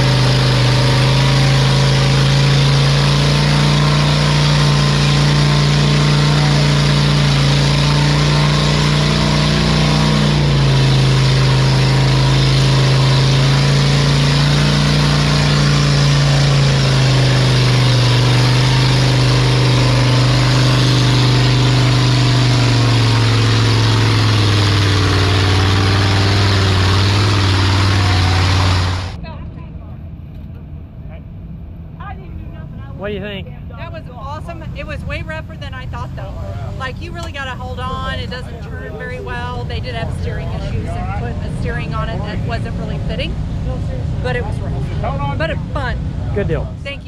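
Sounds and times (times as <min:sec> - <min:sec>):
vehicle engine slowing down: 0:00.0 - 0:47.0.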